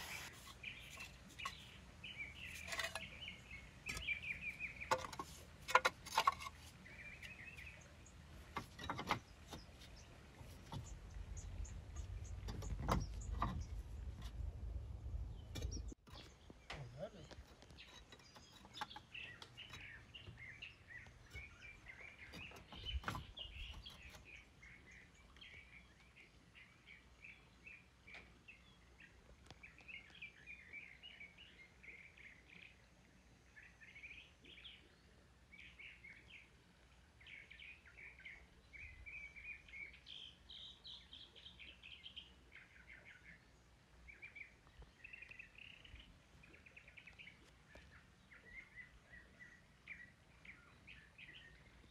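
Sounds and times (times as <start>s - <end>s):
songbirds chirping and singing: 0.0s - 51.9s.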